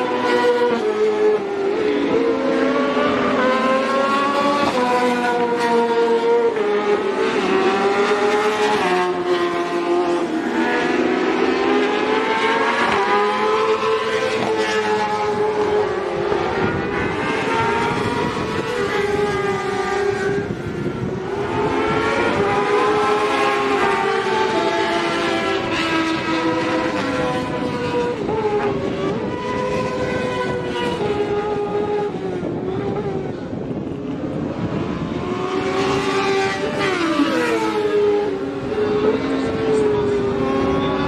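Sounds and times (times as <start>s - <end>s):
racing motorcycles at high revs: 0.0s - 41.0s.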